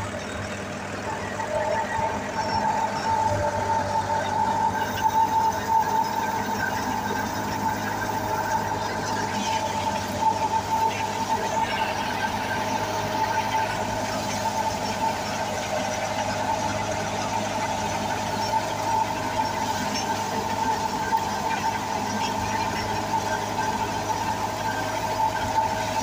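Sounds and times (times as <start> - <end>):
thresher machine droning: 0.0 - 26.0.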